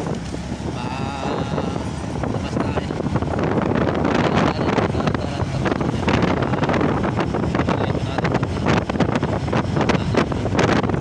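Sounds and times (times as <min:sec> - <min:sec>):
motorcycle engine running: 0:00.0 - 0:11.0
wind gusting over microphone: 0:00.0 - 0:11.0.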